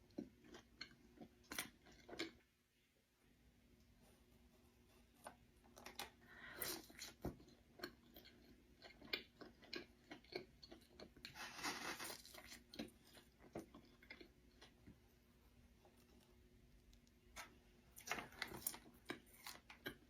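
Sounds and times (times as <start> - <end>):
person chewing crunchy food: 0.0 - 2.5, 5.7 - 20.0.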